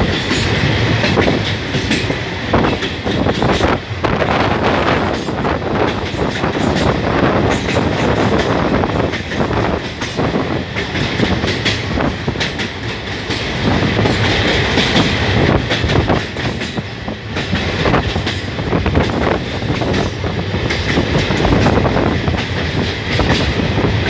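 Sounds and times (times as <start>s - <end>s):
train rumbling over bridge: 0.0s - 24.0s.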